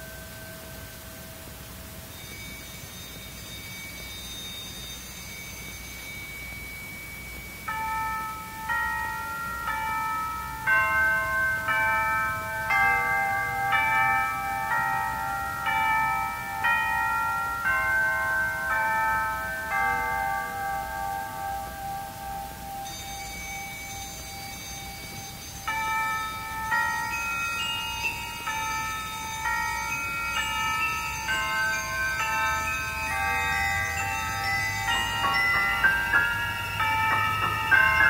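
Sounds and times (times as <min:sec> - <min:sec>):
high held shimmer: 0:00.0 - 0:38.0.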